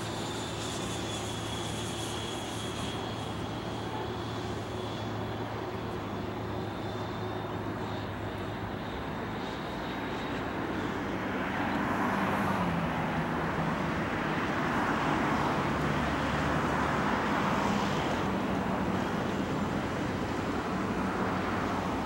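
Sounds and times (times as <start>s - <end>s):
model jet engine rushing: 0.0s - 22.0s.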